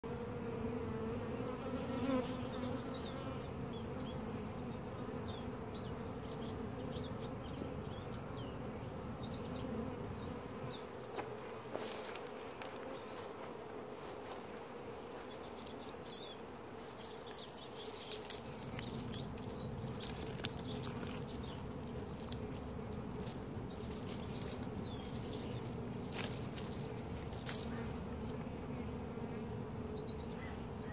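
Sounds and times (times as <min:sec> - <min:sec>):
bee swarm buzzing: 0:00.0 - 0:30.9.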